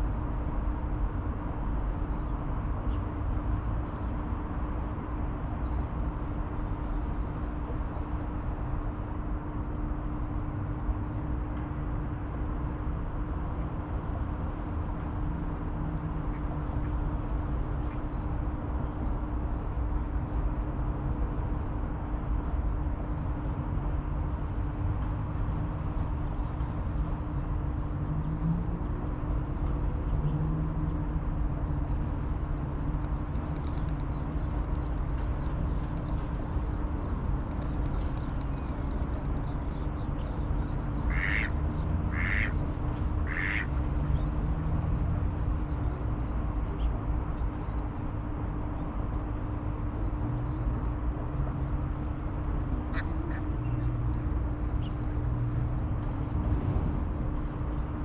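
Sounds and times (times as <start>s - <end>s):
faint hum: 0.0s - 58.0s
low outdoor rumble: 0.0s - 58.0s.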